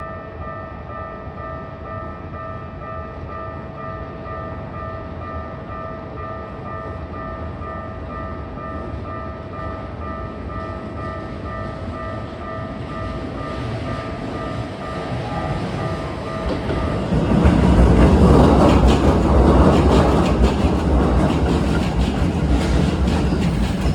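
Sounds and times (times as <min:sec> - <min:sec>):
level-crossing warning bell: 0:00.0 - 0:23.9
train rumble: 0:00.0 - 0:23.9.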